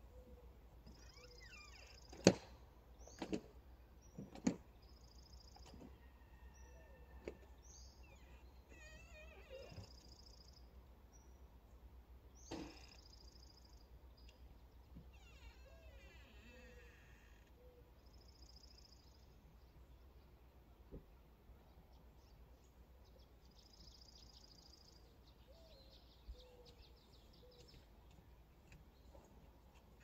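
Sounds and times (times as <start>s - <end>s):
small birds chirping and trilling: 0.8s - 2.3s, 2.9s - 11.5s, 12.3s - 20.1s, 21.7s - 30.0s.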